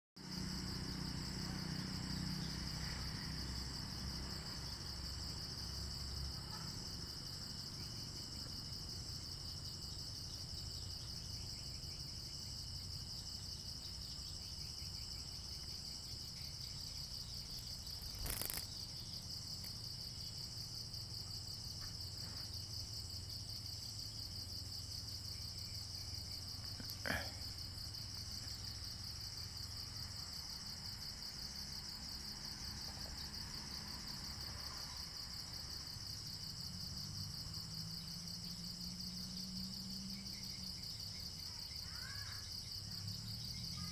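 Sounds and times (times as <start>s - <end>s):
crickets and night insects chirping: 0.2s - 43.9s.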